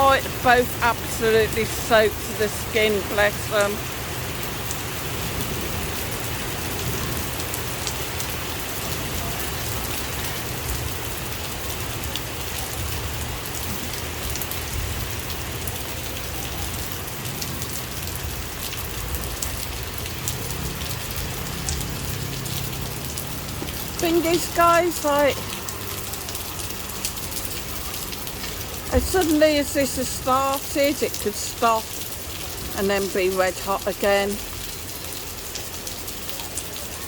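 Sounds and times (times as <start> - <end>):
torrential rain pouring: 0.0 - 37.0.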